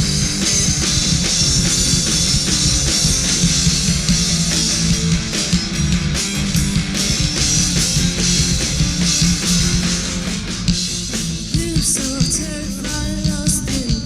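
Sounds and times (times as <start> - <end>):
cymbals crashing: 0.0 - 11.5
rock band playing live: 0.0 - 14.0.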